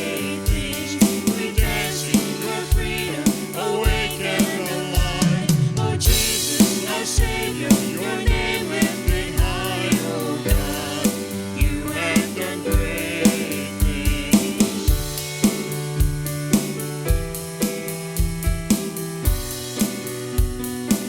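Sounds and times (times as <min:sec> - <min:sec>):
drum kit beat: 0:00.0 - 0:21.0
gospel band playing: 0:00.0 - 0:21.0
sung melody: 0:00.0 - 0:21.0.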